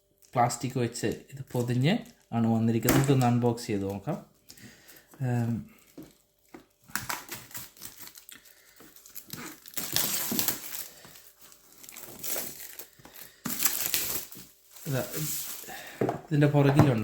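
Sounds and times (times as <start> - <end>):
plastic wrapping tearing and crinkling: 1.0 - 15.8.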